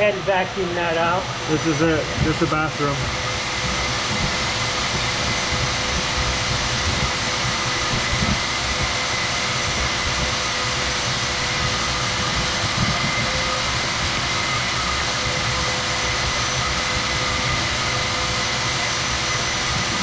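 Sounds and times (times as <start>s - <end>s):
shop vacuum whine: 0.0s - 20.0s.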